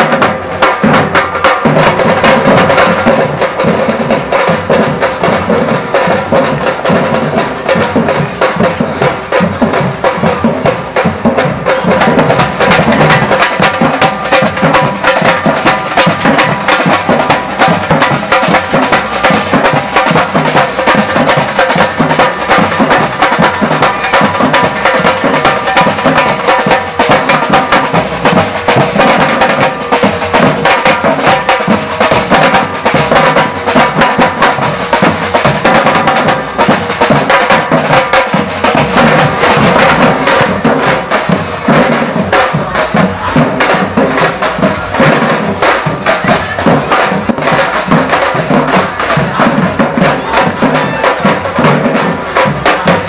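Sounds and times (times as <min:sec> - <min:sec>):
drum band playing: 0:00.0 - 0:53.0.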